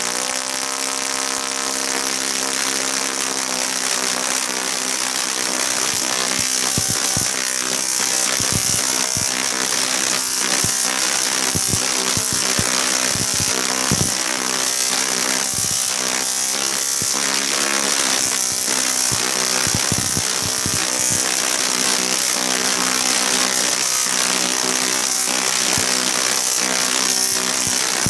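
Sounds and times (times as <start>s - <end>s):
tesla coil buzzing: 0.0s - 28.0s
sharp spark cracks: 2.6s - 28.0s.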